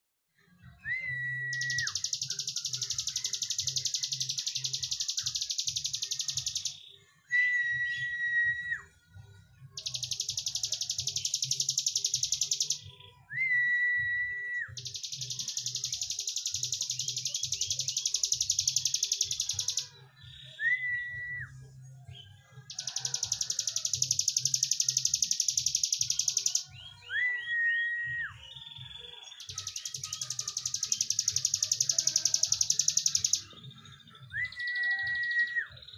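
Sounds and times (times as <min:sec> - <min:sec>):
whistled bird notes: 0:00.8 - 0:08.9, 0:09.8 - 0:21.6, 0:22.7 - 0:35.9.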